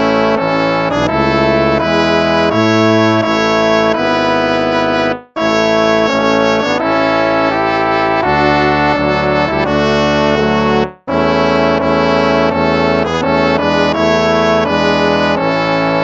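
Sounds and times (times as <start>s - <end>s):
brass hymn music: 0.0s - 16.0s.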